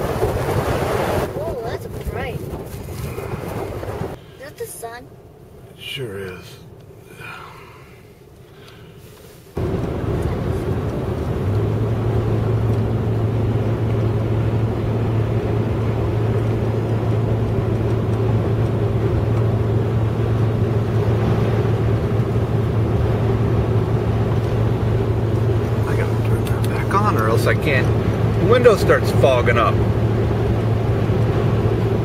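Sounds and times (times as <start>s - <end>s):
car heater blower blowing: 0.0s - 32.0s
steady low hum: 0.0s - 32.0s.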